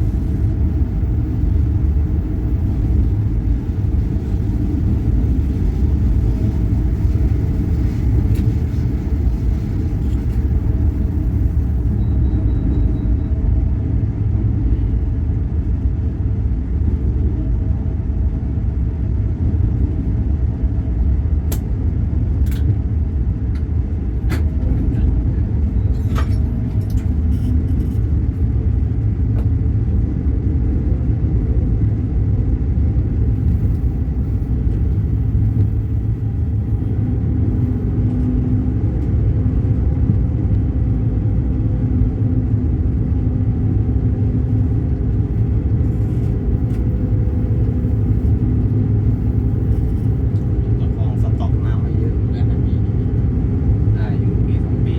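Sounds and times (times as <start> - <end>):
moving vehicle rumble: 0.0 - 54.9.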